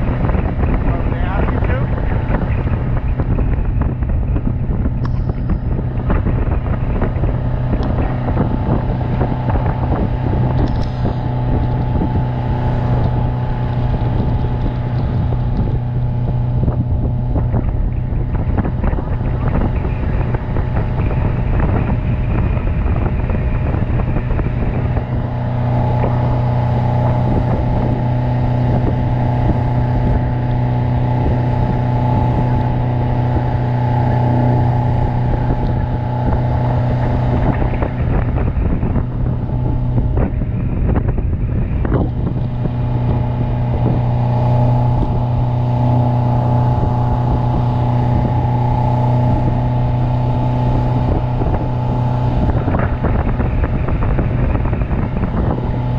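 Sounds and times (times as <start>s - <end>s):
outboard motor running: 0.0s - 55.9s
water rushing: 0.0s - 55.9s
wind buffeting microphone: 0.0s - 55.9s.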